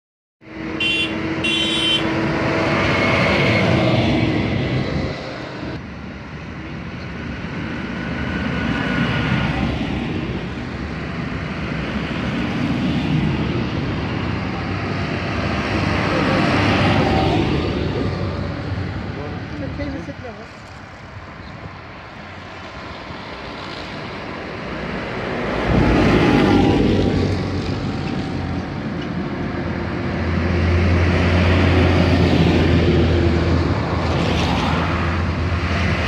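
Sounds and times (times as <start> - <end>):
diesel engines: 0.4 - 36.0
tractors driving past: 0.5 - 36.0.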